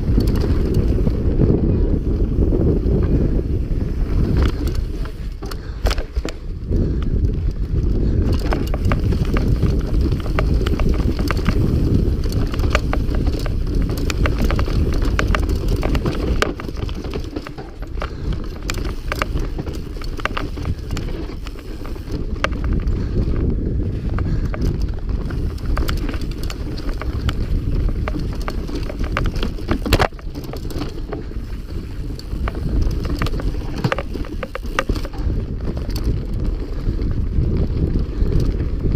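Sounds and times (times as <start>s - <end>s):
bike frame and chain rattling: 0.0s - 38.9s
wind rumbling on microphone: 0.0s - 38.9s.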